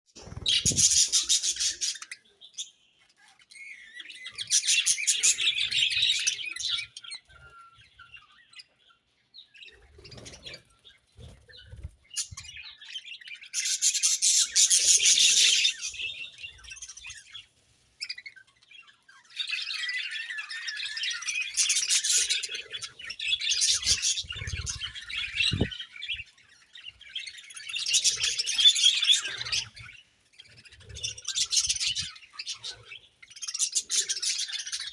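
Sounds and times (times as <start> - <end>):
budgerigars chirping and warbling: 0.2 - 34.9.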